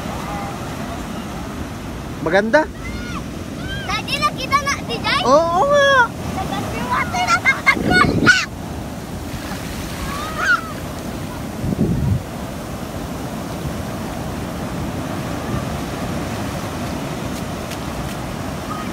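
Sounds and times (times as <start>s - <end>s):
ocean surf breaking on beach: 0.0s - 18.9s
wind on microphone: 3.3s - 18.9s.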